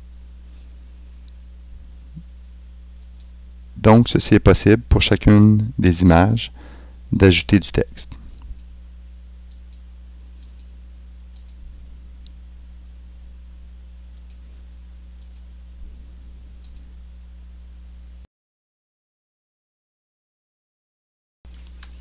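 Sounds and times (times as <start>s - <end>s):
low electrical hum: 0.0s - 18.3s, 21.5s - 22.0s.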